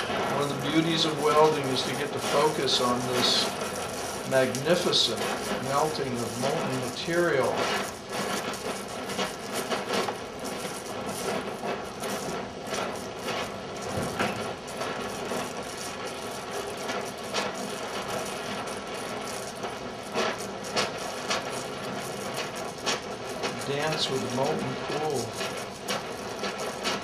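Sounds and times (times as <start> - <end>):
molten metal crackling: 0.0 - 27.0
welding torch flame hissing: 0.0 - 27.0.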